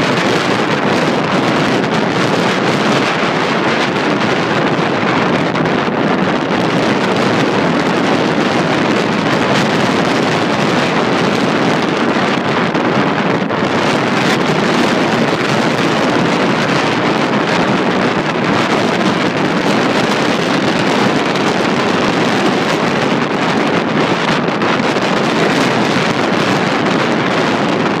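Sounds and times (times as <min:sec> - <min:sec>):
choppy sea waves breaking: 0:00.0 - 0:28.0
wind blowing on microphone: 0:00.0 - 0:28.0.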